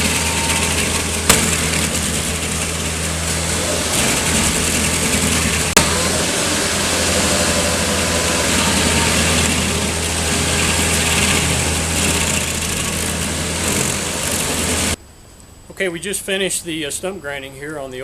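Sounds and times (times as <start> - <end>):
grinding hiss: 0.0 - 15.0
stump grinder engine running: 0.0 - 15.0.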